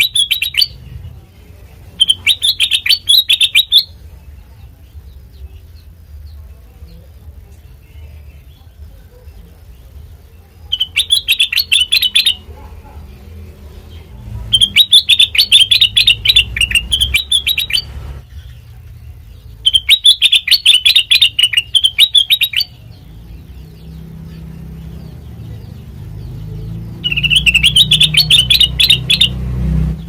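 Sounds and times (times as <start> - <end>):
bulbul chattering song: 0.0 - 30.0.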